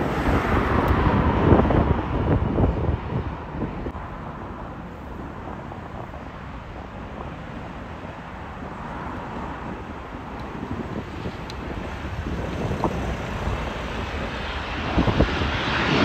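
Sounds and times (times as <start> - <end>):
jet airliner rumble: 0.0 - 16.0
wind buffeting microphone: 0.0 - 16.0.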